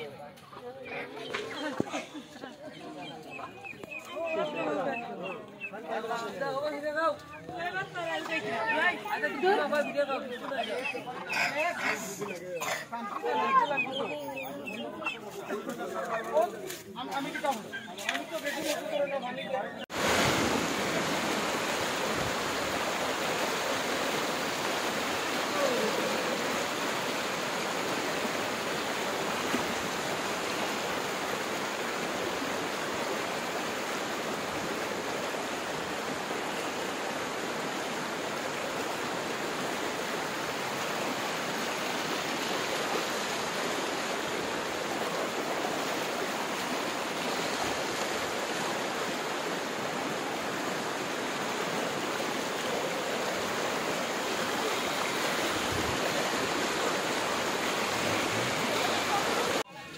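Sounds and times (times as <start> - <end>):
floodwater rushing: 0.0 - 59.7.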